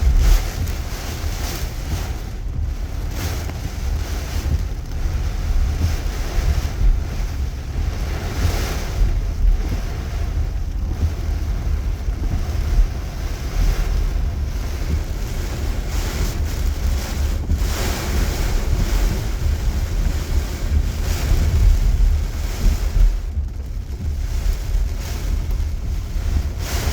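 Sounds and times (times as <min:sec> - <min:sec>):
heavy rain falling: 0:00.0 - 0:26.9
wind buffeting microphone: 0:00.0 - 0:26.9.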